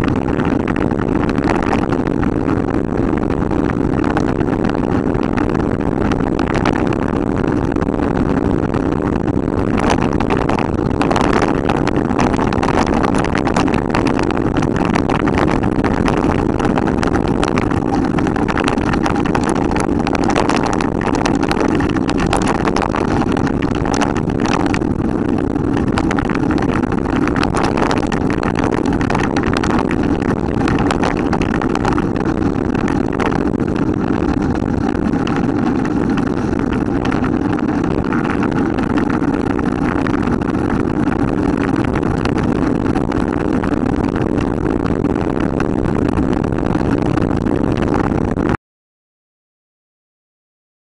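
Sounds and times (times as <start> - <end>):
wind on microphone: 0.0 - 48.6.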